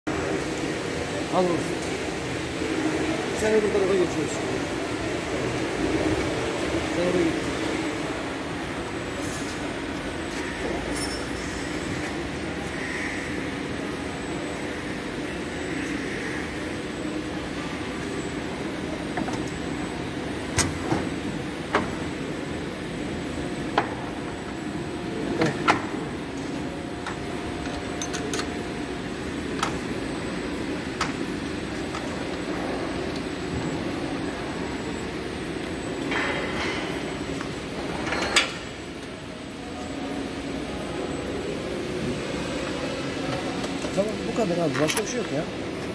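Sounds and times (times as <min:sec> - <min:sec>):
factory machinery hum: 0:00.1 - 0:45.9.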